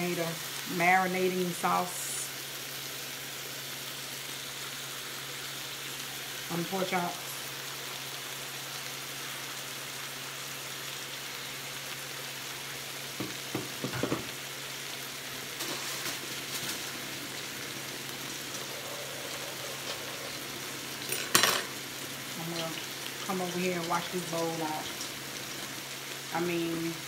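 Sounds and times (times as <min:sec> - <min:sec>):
pork chops sizzling on grill: 0:00.0 - 0:27.0.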